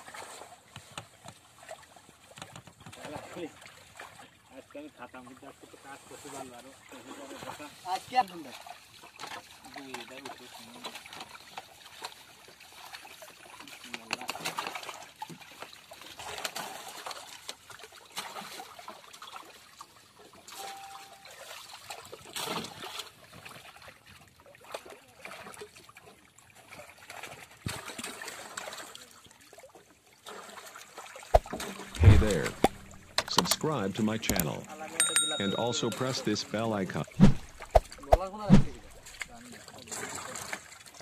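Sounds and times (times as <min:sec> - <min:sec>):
water splashing and dripping: 0:06.6 - 0:34.8, 0:35.6 - 0:41.0.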